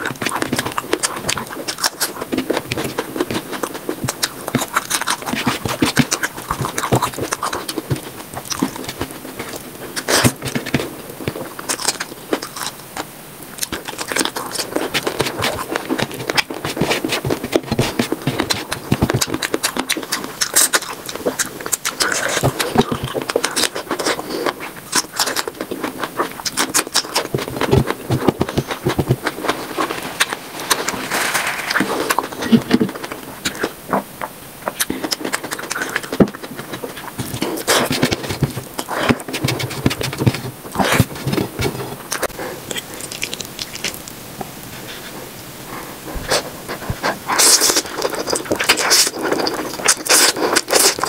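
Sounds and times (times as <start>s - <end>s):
wet chewing and mouth smacking: 0.0s - 51.0s.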